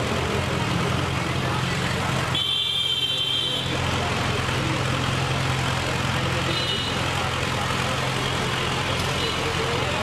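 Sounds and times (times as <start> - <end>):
street traffic: 0.0 - 10.0
vehicle engine hum: 0.0 - 10.0.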